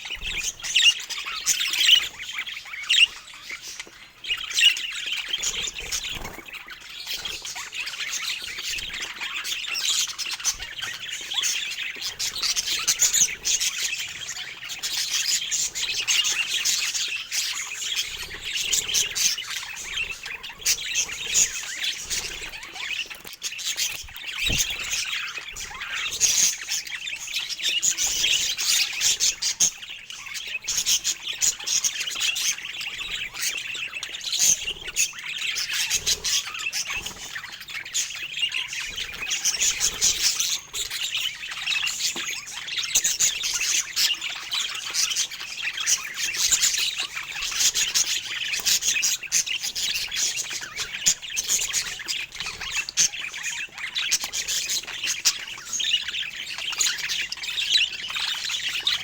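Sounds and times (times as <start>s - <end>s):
budgerigars chirping: 0.0s - 59.0s.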